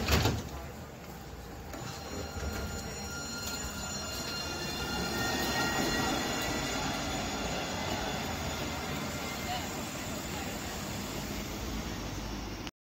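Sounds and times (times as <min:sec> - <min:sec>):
tram doors shutting thud: 0:00.0 - 0:12.1.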